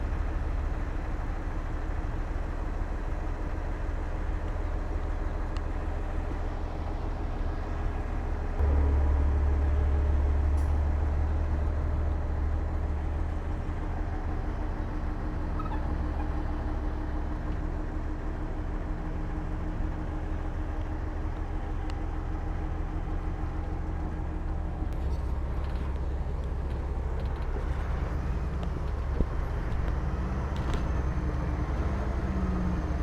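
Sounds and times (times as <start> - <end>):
heavy diesel engine rumbling: 0.0 - 33.0.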